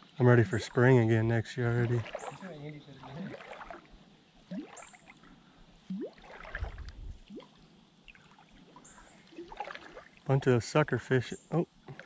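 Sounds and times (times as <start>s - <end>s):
creek water gurgling: 0.0s - 12.0s.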